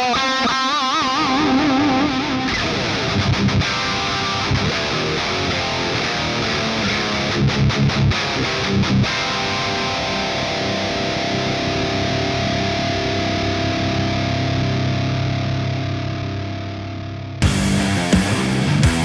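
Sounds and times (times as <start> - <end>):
distorted electric guitar riff: 0.0 - 19.0.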